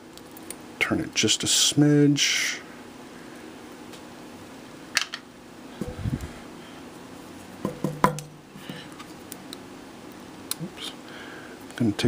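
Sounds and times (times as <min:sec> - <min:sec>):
steady fan hum: 0:00.0 - 0:12.0.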